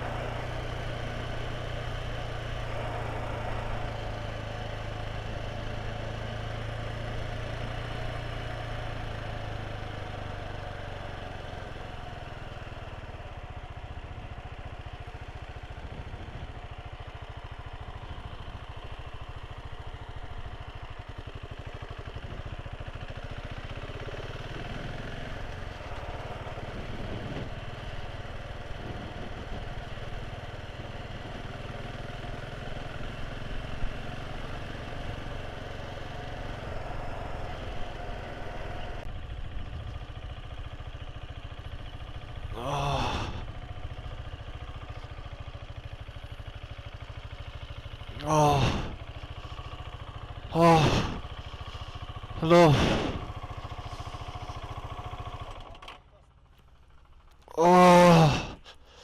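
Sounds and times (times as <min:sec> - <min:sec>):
wind and road noise: 0:00.0 - 0:40.7, 0:43.2 - 0:55.6
motorcycle engine running: 0:00.0 - 0:58.1.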